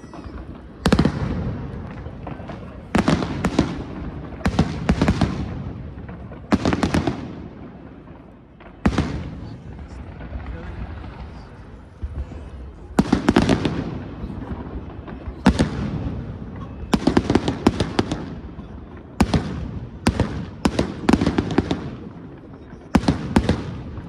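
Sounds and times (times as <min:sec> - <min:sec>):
firework bangs: 0:00.0 - 0:24.0
firework crackling: 0:00.0 - 0:24.0.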